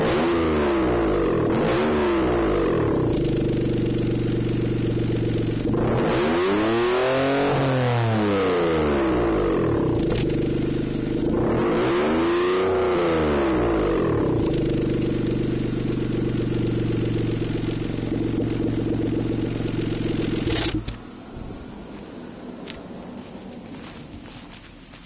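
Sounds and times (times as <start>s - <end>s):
loud car engine revving and idling: 0.0s - 21.0s.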